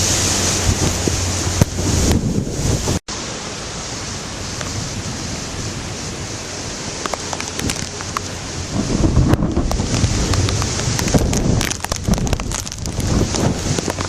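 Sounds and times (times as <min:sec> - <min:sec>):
wind gusts buffeting microphone: 0:00.0 - 0:03.0, 0:04.4 - 0:14.0
hiss of wind-driven rain: 0:00.0 - 0:14.0.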